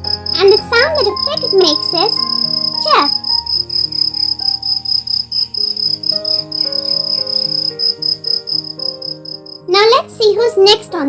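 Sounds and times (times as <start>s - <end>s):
cricket chirping: 0.0s - 9.7s
soft background music: 0.0s - 11.0s.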